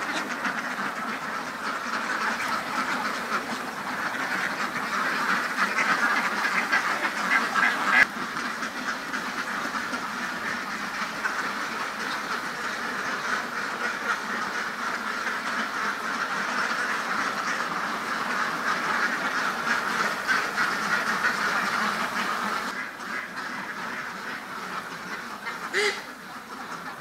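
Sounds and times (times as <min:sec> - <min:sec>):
flock of ducks quacking: 0:00.0 - 0:27.0.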